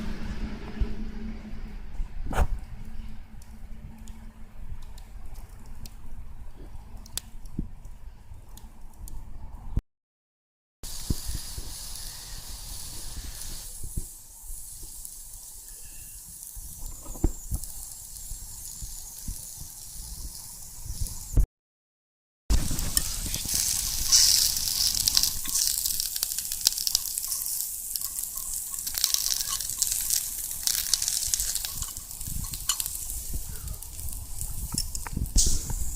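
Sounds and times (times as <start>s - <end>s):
campfire crackling and hissing: 2.3s - 9.8s, 10.8s - 21.5s, 22.5s - 35.9s.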